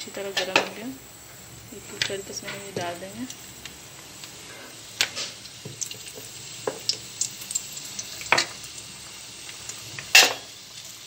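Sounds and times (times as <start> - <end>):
food sizzling in hot oil: 0.0 - 11.0
oil crackling and popping: 0.1 - 11.0.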